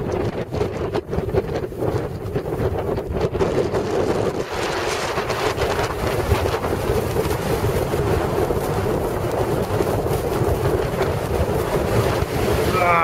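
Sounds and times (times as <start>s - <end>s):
blizzard wind buffeting microphone: 0.0s - 13.0s.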